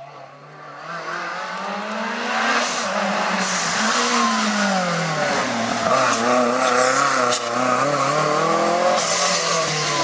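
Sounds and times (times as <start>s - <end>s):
rally car engine accelerating: 0.3s - 10.0s.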